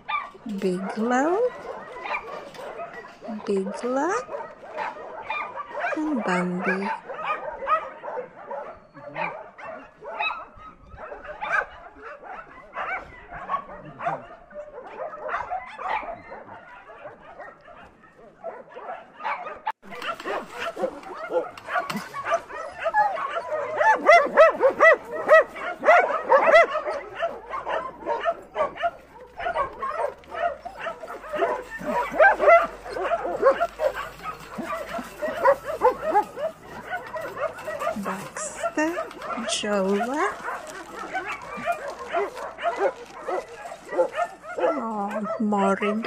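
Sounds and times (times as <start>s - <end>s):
dogs barking and yipping: 0.0s - 46.0s.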